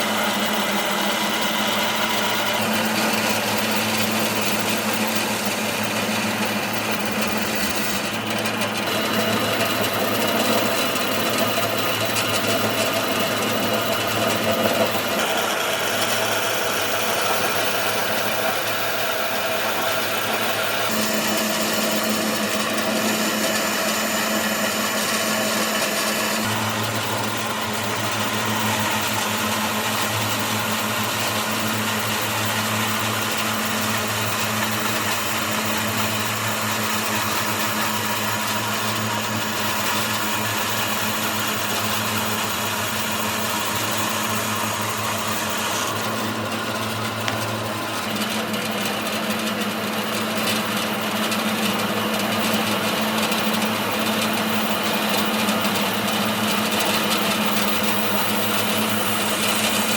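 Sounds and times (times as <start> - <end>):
woodworking machine humming: 0.0 - 59.9.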